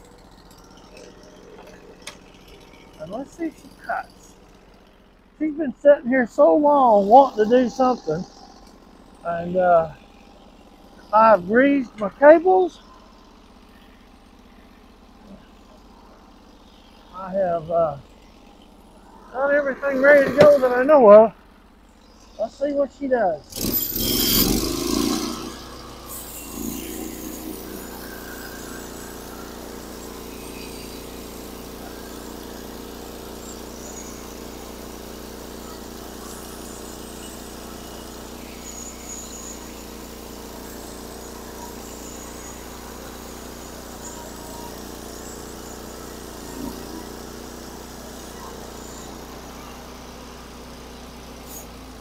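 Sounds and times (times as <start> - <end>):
band sawmill cutting log: 0.0 - 52.0.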